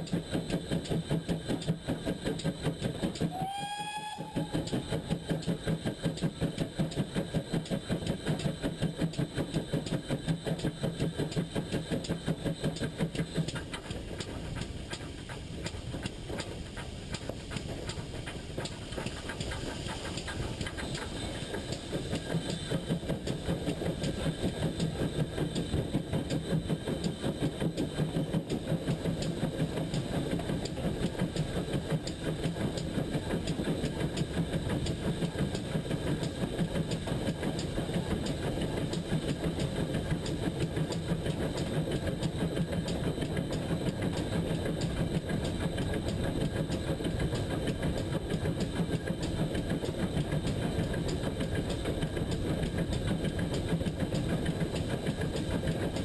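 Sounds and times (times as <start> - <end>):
steam locomotive running: 0.0 - 56.0.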